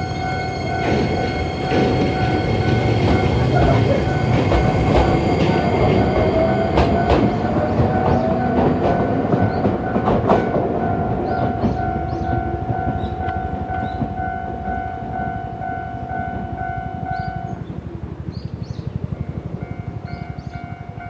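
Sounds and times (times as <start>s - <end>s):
level crossing alarm: 0.0s - 17.6s
low rumble of train on bridge: 0.0s - 21.0s
train wheels clacking on rail joints: 0.0s - 21.0s.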